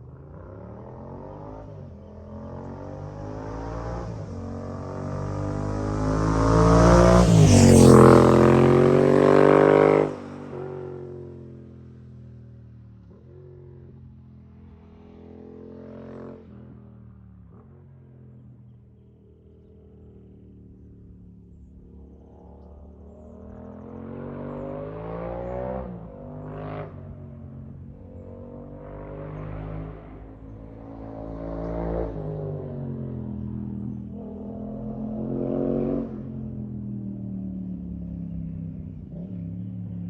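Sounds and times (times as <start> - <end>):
motorcycle engine revving: 0.0 - 11.6, 19.2 - 40.0.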